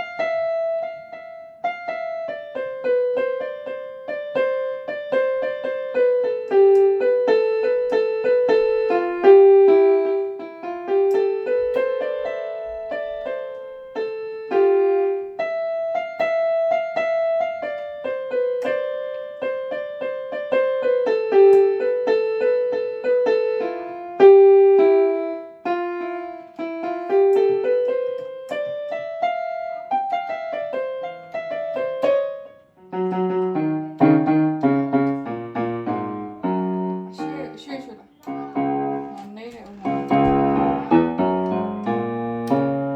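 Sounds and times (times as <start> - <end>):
low piano notes: 0.0 - 42.9
piano melody: 0.0 - 42.9.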